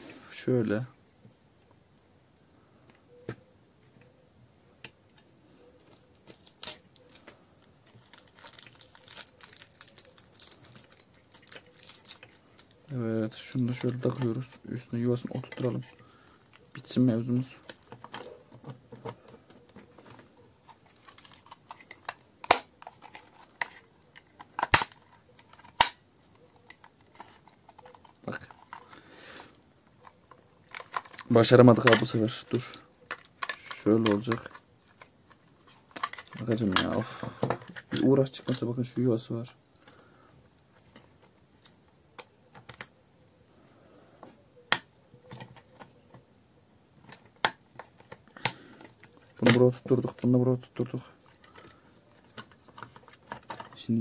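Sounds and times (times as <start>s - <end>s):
plastic casing clicking and rustling: 4.8s - 29.0s, 29.8s - 38.7s, 39.6s - 43.0s, 44.2s - 46.3s, 46.9s - 54.0s.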